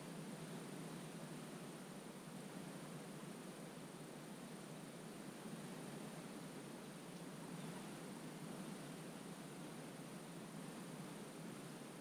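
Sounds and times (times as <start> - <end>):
faint wetland hiss: 0.0 - 12.0.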